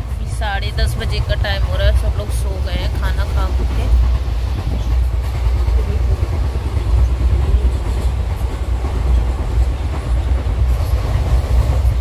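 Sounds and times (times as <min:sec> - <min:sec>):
train carriage rumbling on rails: 0:00.0 - 0:12.0.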